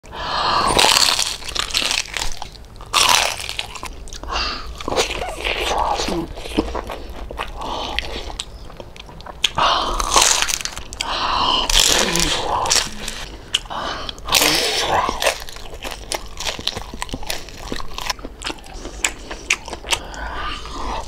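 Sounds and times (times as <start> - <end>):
crunchy biting and chewing: 0.4 - 21.0.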